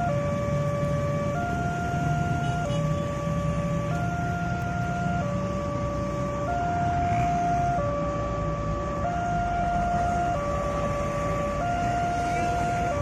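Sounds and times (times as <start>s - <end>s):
road traffic engine rumble: 0.0s - 13.0s.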